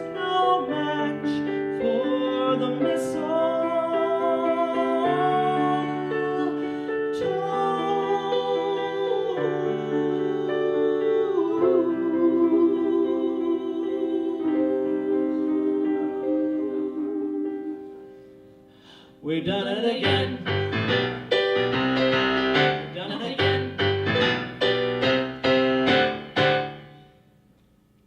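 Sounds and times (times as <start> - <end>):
piano chords: 0.0 - 27.4.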